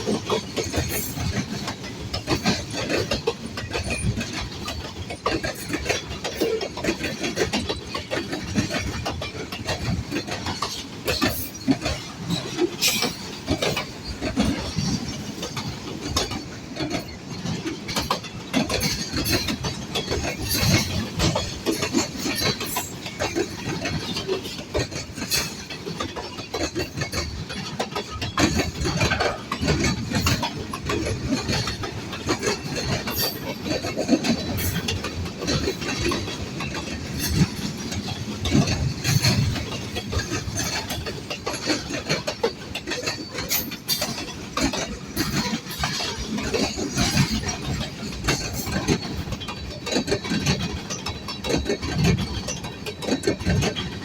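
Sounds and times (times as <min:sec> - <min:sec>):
wheels clicking over rail joints: 0:00.0 - 0:54.0.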